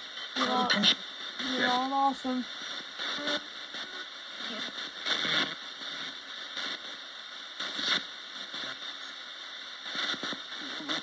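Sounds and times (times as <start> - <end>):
radio sound bursts: 0.0 - 11.0
radio static hiss: 0.0 - 11.0.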